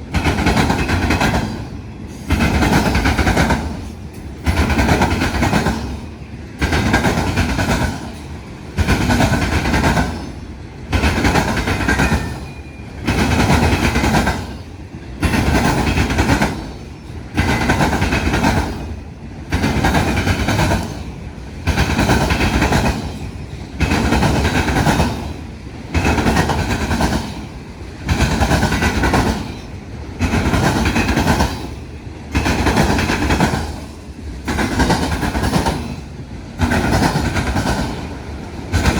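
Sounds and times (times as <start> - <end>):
train rumble: 0.0 - 38.9
train wheels banging over crossing: 0.0 - 38.9.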